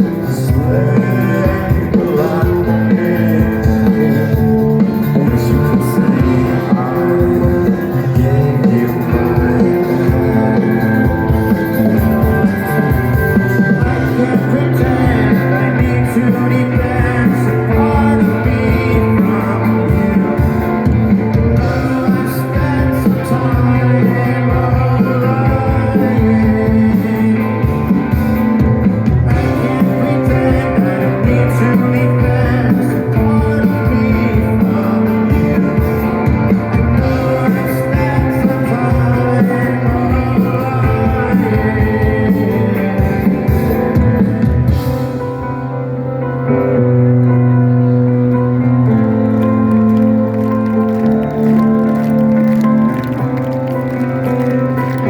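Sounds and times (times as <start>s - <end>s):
person singing: 0.0s - 45.7s
drums: 0.0s - 55.0s
electric guitars: 0.0s - 55.0s.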